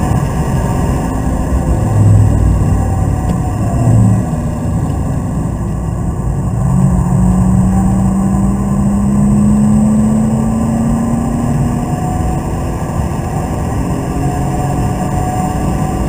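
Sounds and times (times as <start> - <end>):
car engine accelerating: 0.0 - 16.0
road noise: 0.0 - 16.0.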